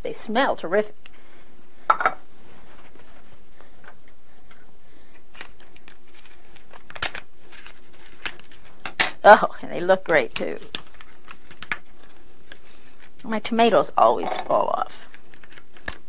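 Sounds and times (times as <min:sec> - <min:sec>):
faint hum and hiss: 0:00.0 - 0:16.0.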